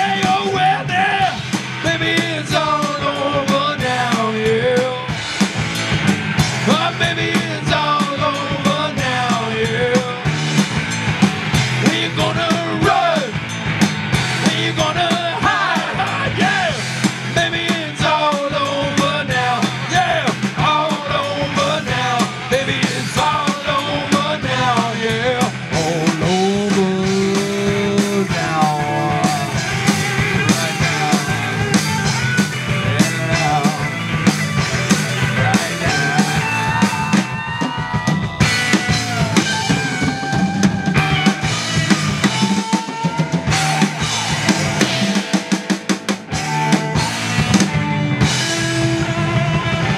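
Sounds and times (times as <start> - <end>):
rock band playing: 0.0 - 49.9.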